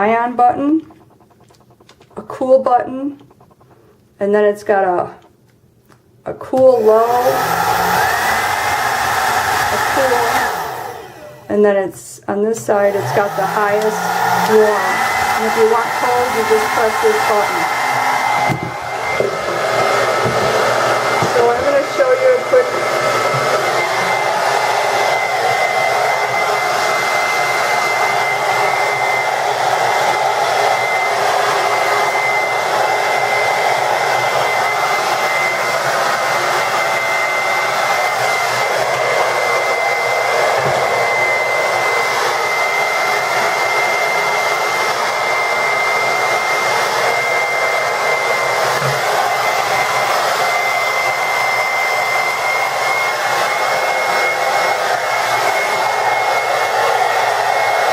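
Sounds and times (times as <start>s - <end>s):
hair dryer running: 6.4s - 11.7s, 12.5s - 57.9s.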